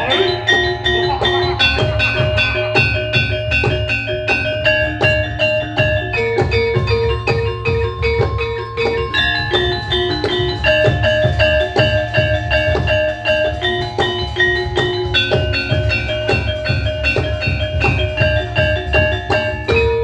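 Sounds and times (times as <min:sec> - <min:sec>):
dense steady drumming: 0:00.0 - 0:20.0
melody of struck ringing notes: 0:00.0 - 0:20.0.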